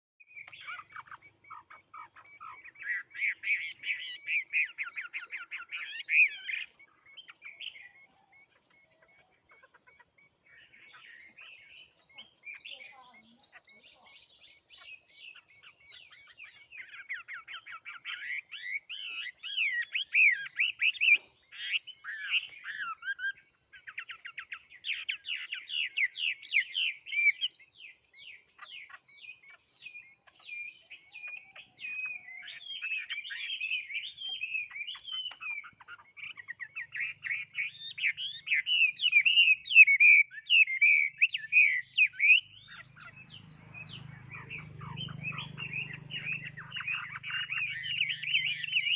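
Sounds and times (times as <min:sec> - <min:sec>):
songbird singing with trills: 0:00.2 - 0:48.9.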